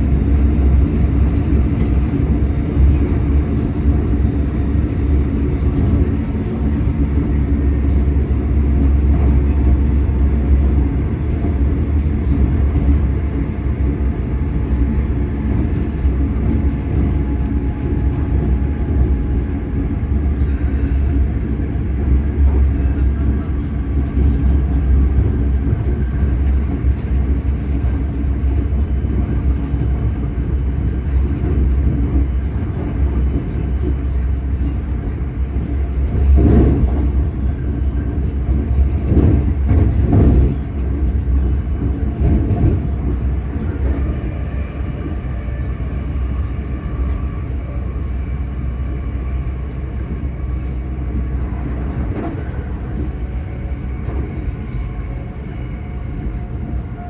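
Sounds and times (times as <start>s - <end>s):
train rumble inside carriage: 0.0s - 57.0s.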